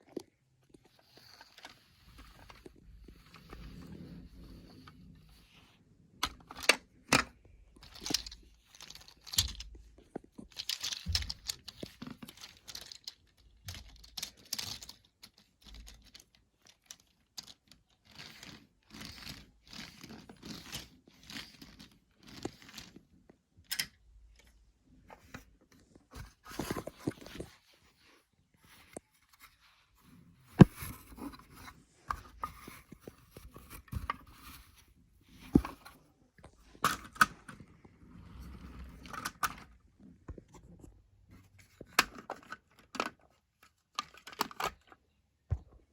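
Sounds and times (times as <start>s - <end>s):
plastic parts clicking and scraping: 0.0s - 45.2s.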